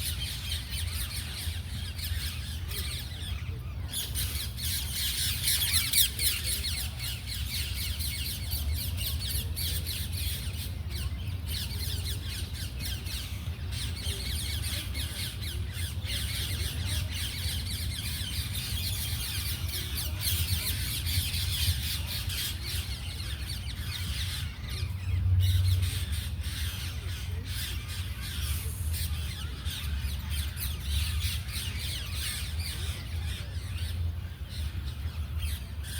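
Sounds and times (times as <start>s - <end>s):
flock of birds chirping: 0.0s - 35.9s.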